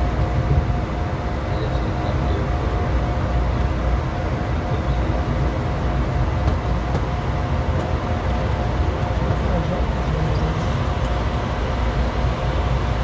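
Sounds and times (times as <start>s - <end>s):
low rumble of airflow and engines: 0.0s - 13.0s.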